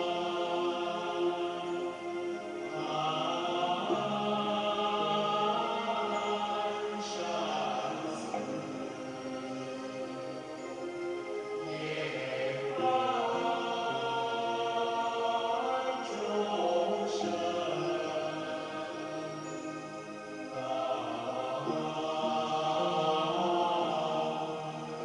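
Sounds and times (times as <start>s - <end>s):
choir chanting long notes: 0.0s - 25.0s.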